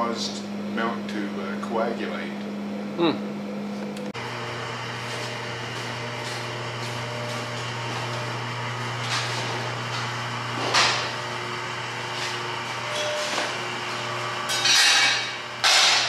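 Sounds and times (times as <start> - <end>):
electric machinery hum: 0.0 - 16.0.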